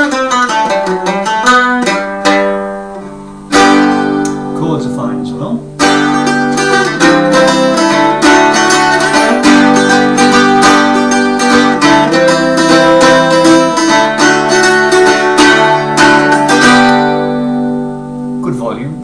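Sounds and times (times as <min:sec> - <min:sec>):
bouzouki chords strummed: 0:00.0 - 0:19.0.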